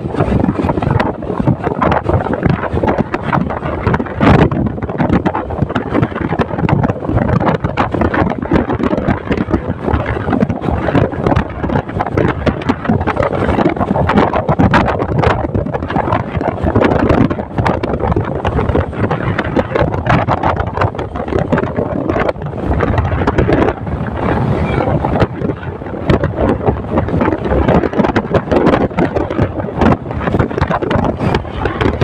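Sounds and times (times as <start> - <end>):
motorcycle road and engine noise: 0.0 - 32.0
wind buffeting microphone: 0.0 - 32.0.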